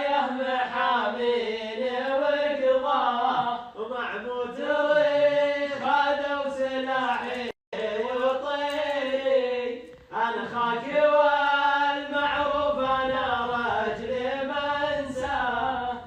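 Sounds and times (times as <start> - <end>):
male voices chanting: 0.0 - 16.0.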